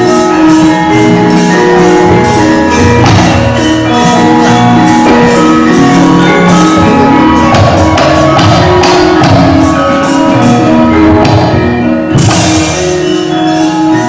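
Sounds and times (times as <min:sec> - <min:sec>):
gamelan metallophones and gongs: 0:00.0 - 0:14.0.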